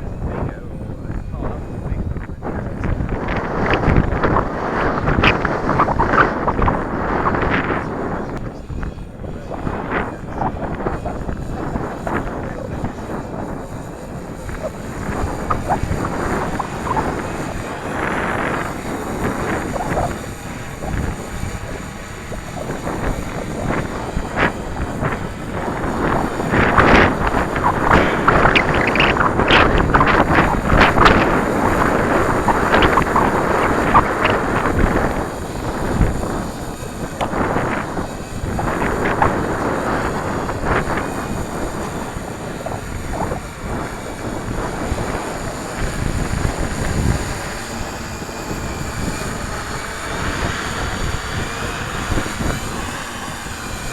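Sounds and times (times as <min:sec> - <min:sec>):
gusty wind buffeting microphone: 0:00.0 - 0:53.9.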